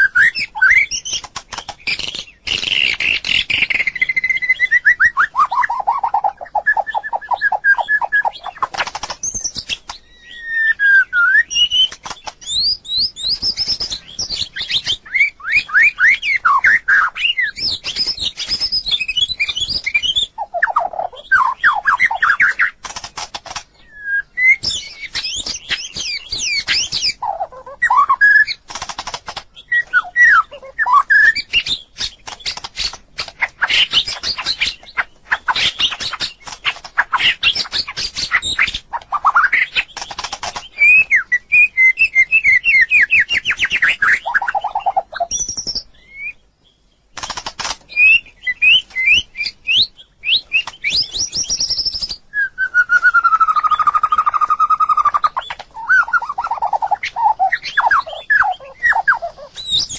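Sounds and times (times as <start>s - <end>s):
bird singing varied song: 0.0s - 59.9s.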